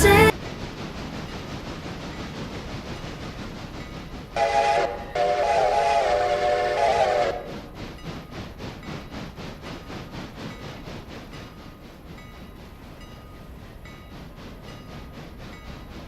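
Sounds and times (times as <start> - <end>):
train cars clattering on rails: 0.0 - 16.0
train running noise: 0.0 - 16.0.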